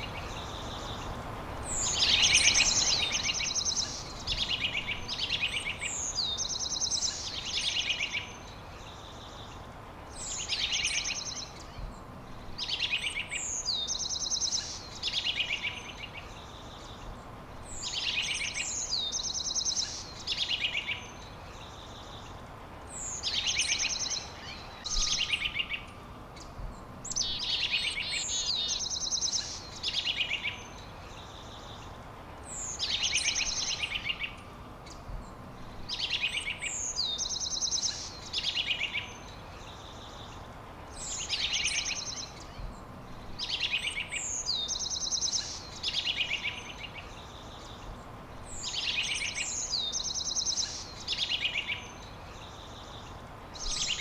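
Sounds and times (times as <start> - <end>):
songbird singing trills: 0.0 - 54.0
steady low hiss: 0.0 - 54.0.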